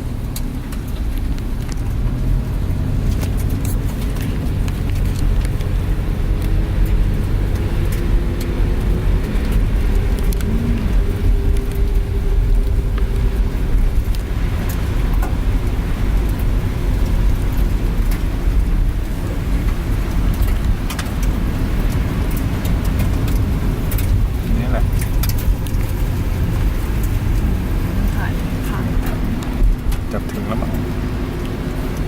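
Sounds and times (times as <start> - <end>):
van engine and road rumble: 0.0 - 32.0.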